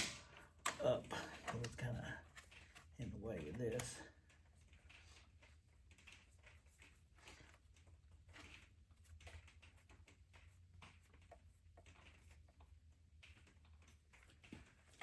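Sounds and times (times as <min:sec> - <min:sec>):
faint scattered clicks: 0:00.0 - 0:15.0.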